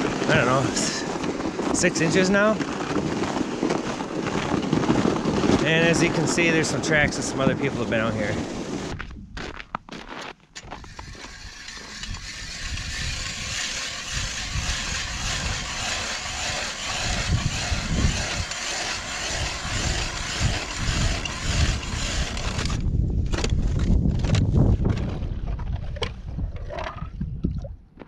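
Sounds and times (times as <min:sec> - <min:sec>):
ice auger scraping ice: 0:00.0 - 0:25.1.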